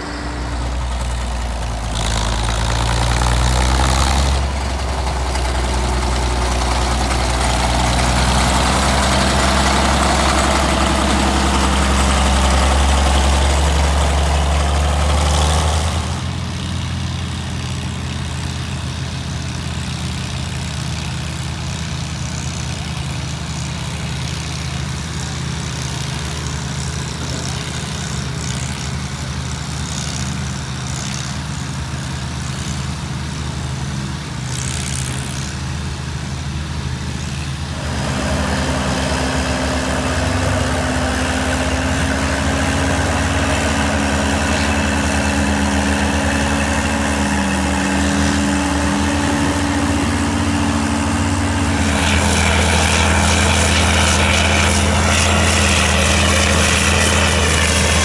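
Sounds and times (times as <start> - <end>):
motor grader engine running: 0.0 - 58.0
tractor engine running: 0.0 - 58.0.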